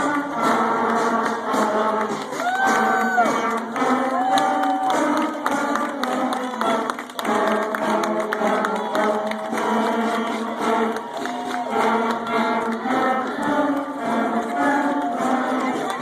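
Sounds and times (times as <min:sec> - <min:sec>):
school band playing: 0:00.0 - 0:16.0.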